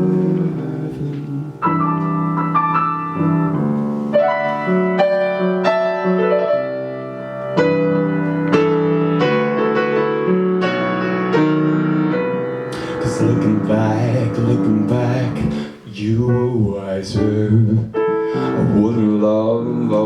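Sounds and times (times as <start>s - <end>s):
solo piano melody: 0.0s - 20.0s.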